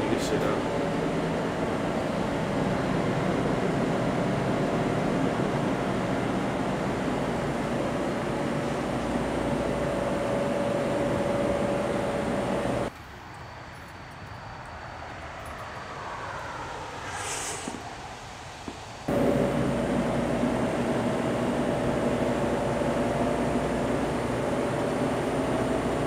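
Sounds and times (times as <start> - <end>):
droning rumble and hiss: 0.0 - 26.0.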